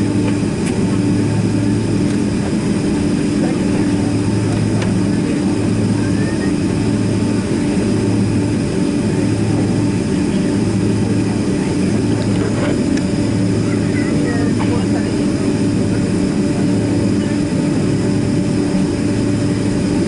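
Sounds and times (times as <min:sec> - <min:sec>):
jet engine drone in cabin: 0:00.0 - 0:20.0.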